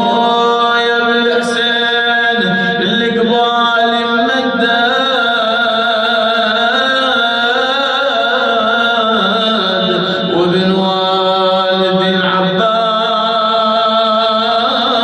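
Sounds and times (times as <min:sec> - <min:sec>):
man chanting mournfully: 0:00.0 - 0:15.0.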